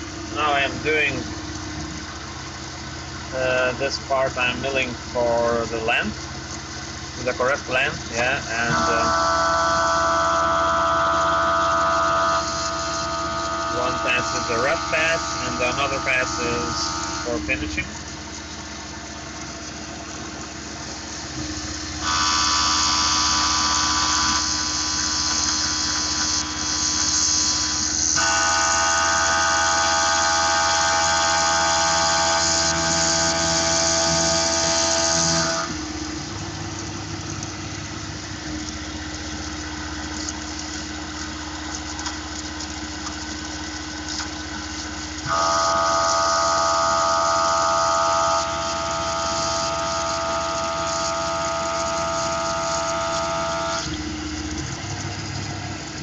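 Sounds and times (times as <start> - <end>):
machine running quietly: 0.0 - 56.0
milling machine whine: 0.0 - 56.0.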